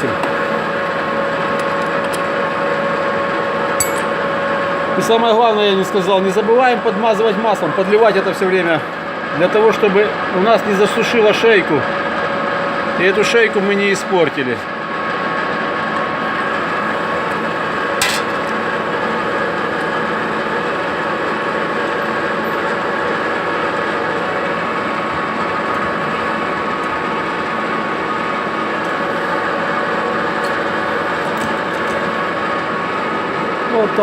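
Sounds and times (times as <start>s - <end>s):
lathe whining and humming: 0.0s - 34.0s.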